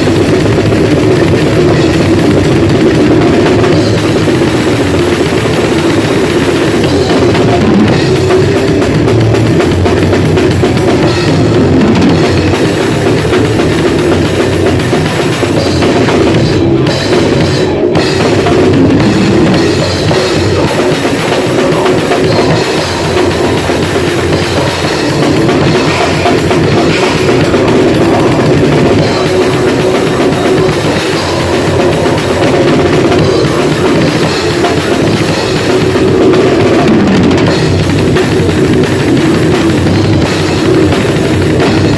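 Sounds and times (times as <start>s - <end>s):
drum kit: 0.0s - 41.9s
grindcore band playing: 0.0s - 41.9s.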